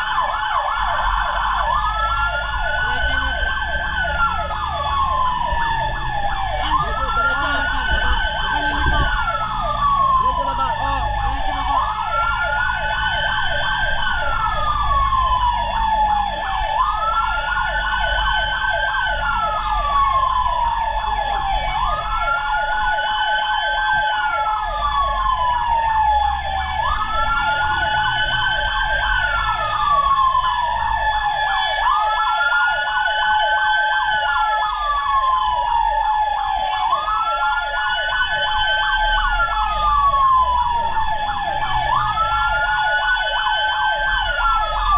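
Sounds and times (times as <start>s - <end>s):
fire truck siren wailing: 0.0s - 44.9s.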